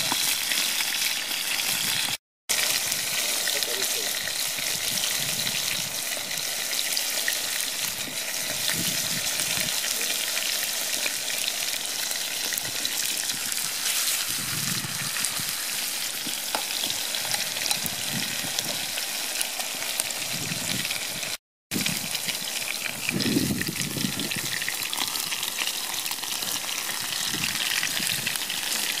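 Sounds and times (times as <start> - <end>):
steaks sizzling in a frying pan: 0.0 - 29.0.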